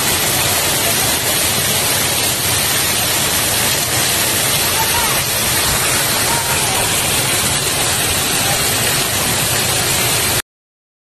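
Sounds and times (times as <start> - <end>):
rainwater pouring off roof: 0.0 - 10.4.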